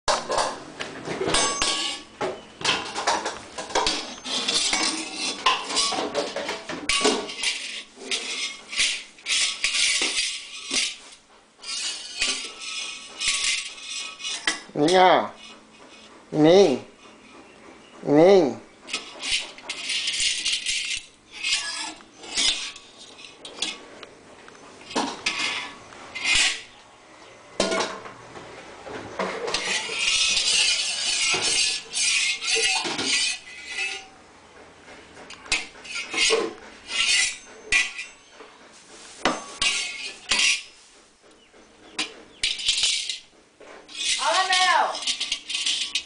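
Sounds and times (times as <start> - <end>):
metal utensils scraping a wok: 1.2 - 16.1, 18.8 - 26.8, 28.9 - 34.2, 35.3 - 41.0, 41.8 - 46.0.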